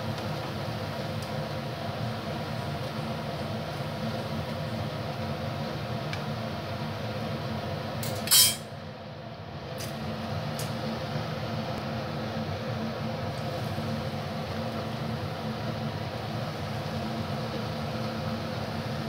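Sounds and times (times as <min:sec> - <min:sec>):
batter sizzling in hot oil: 0:00.0 - 0:08.5, 0:09.6 - 0:19.0.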